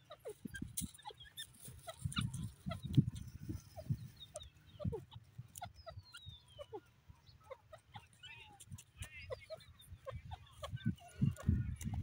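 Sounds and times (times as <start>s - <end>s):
francolin clucking calls: 0.0s - 12.0s.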